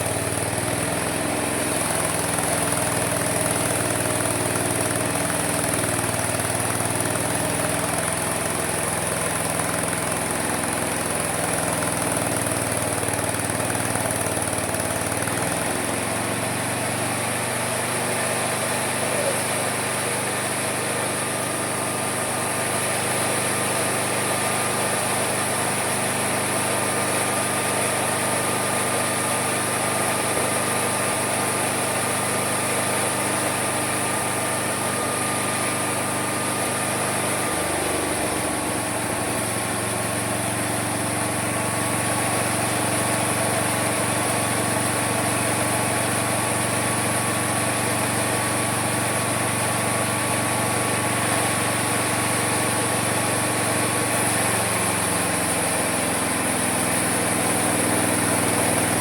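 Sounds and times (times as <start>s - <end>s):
sawmill running with hum and whine: 0.0s - 59.0s.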